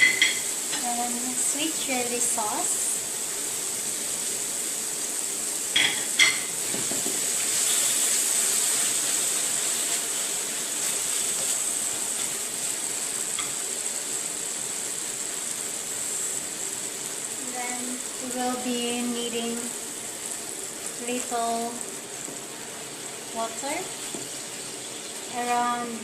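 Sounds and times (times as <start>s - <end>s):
sauce sizzling in hot oil: 0.0s - 26.0s.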